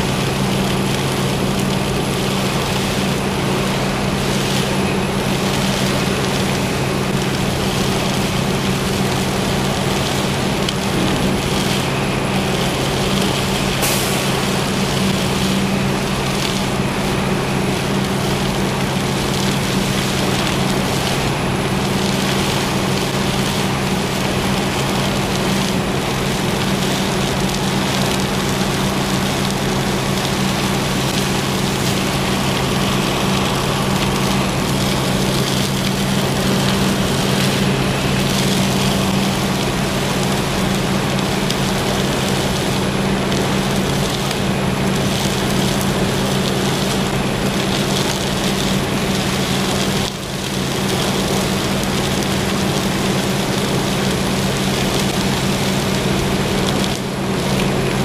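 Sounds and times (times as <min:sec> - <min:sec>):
heavy machinery drone: 0:00.0 - 0:58.0.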